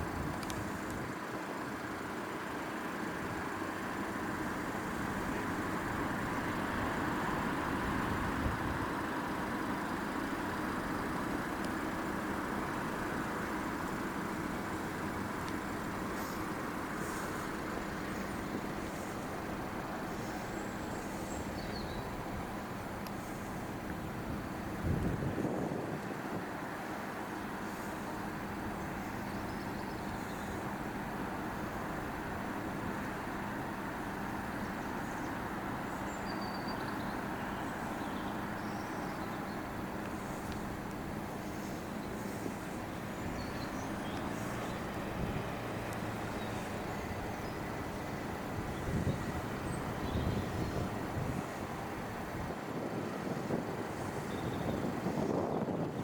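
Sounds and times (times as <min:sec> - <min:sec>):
road traffic noise: 0:00.0 - 0:56.0
vehicle engines running: 0:00.0 - 0:56.0.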